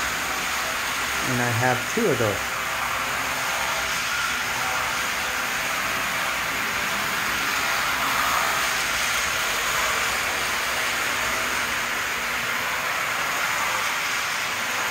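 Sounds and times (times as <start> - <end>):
model train motors whirring: 0.0 - 14.9.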